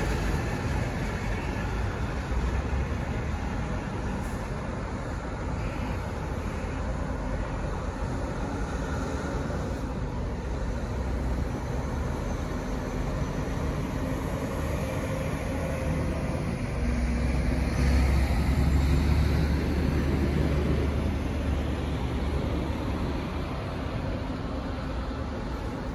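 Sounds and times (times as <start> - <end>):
diesel train rumble: 0.0 - 25.9.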